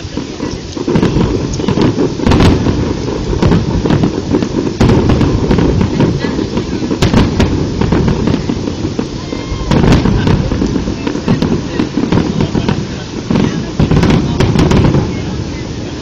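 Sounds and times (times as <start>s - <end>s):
firework cracks and bangs: 0.0s - 16.0s
firework shells bursting: 0.0s - 16.0s.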